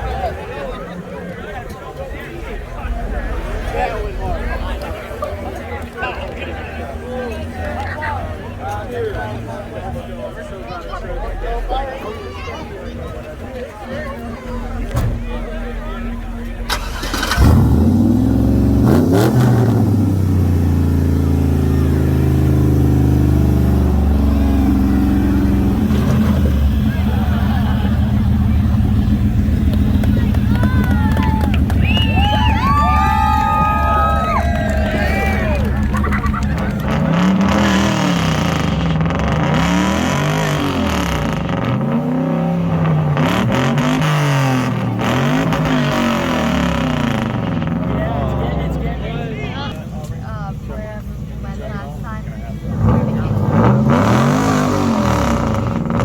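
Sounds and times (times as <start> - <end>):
car engine revving: 0.0 - 12.2, 14.0 - 56.0.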